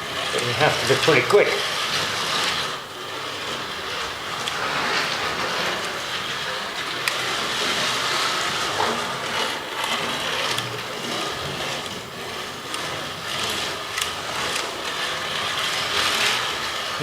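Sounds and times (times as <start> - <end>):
toy car motor whirring: 0.0 - 17.0.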